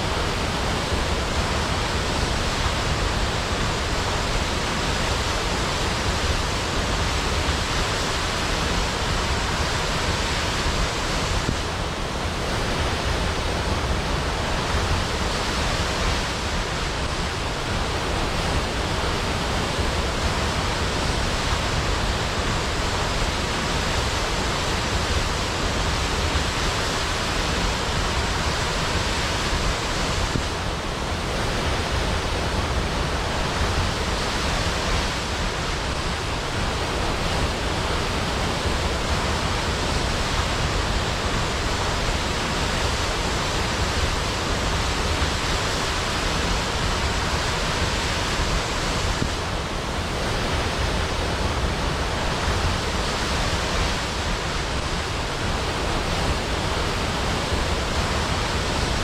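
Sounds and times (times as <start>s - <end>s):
deep rumble of waterfall: 0.0s - 59.0s
waterfall rushing: 0.0s - 59.0s.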